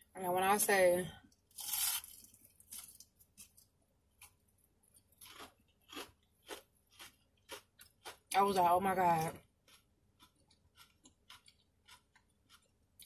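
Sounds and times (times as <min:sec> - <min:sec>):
crunchy chewing: 0:01.5 - 0:08.4, 0:09.2 - 0:13.0.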